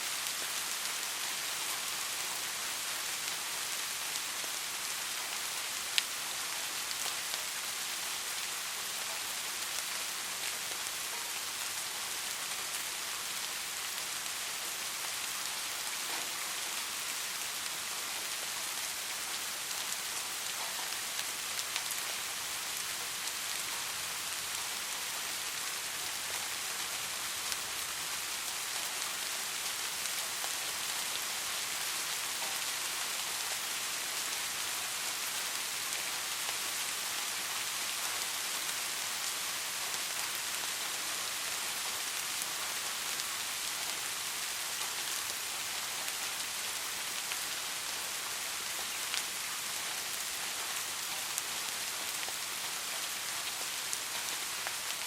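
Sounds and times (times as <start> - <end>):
soft rain hissing: 0.0 - 55.0
raindrops ticking on a surface: 0.1 - 55.0.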